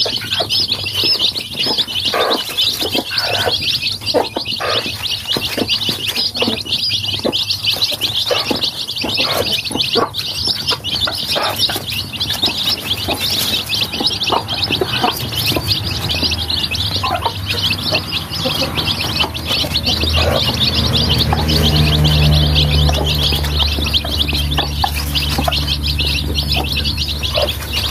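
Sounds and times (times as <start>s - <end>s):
chicks pecking at feed: 0.0s - 27.9s
chicks peeping: 0.0s - 27.9s.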